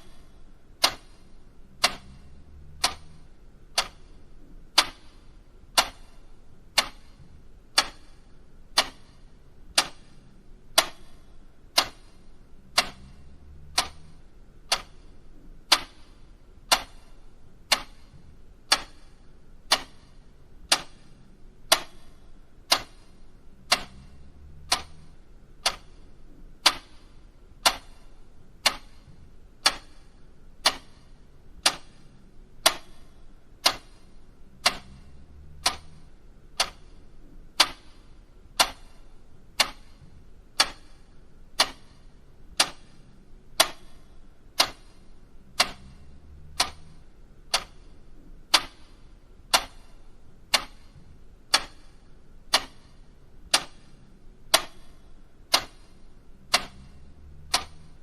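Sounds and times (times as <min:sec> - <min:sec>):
clock ticking: 0:00.0 - 0:58.0.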